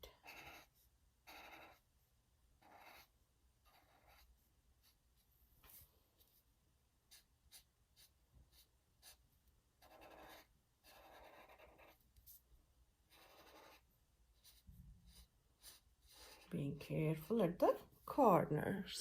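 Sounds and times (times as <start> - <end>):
marker scratching on paper: 0.1 - 1.9, 2.6 - 12.4, 13.0 - 16.6.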